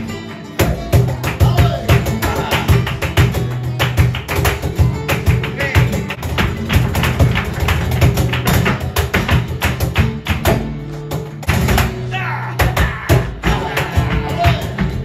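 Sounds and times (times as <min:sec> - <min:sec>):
flamenco guitar: 0:00.0 - 0:15.0
rhythmic hand-clapping: 0:00.0 - 0:15.0
dancer stamping footwork: 0:00.6 - 0:15.0.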